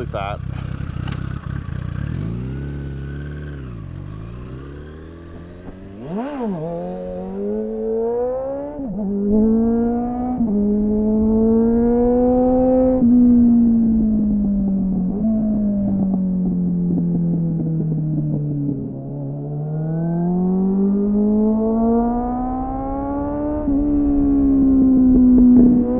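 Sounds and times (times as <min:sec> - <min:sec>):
motorcycle engine revving and accelerating: 0:00.0 - 0:25.9.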